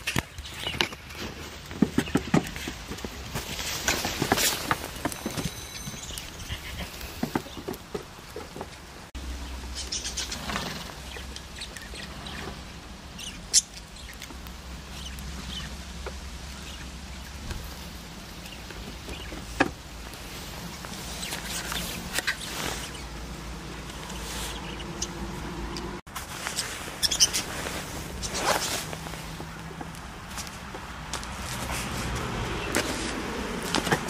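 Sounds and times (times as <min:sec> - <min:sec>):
rustling: 0:00.0 - 0:25.0, 0:26.1 - 0:34.0.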